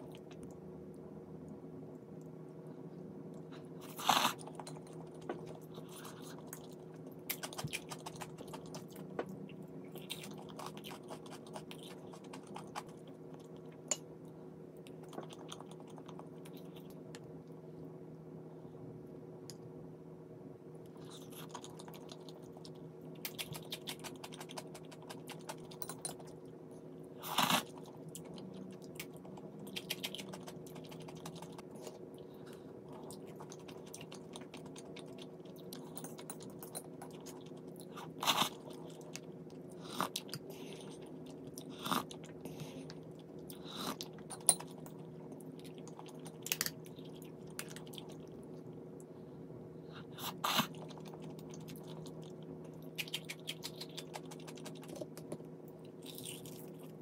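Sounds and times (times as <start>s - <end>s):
chewing crisp food: 3.4s - 13.9s, 14.8s - 17.6s, 20.9s - 26.6s, 27.2s - 48.9s, 50.2s - 57.0s.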